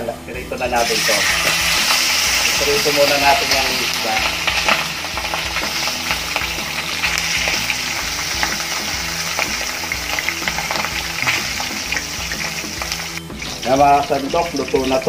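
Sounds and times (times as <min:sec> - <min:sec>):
fish sizzling in hot oil: 0:00.6 - 0:15.0.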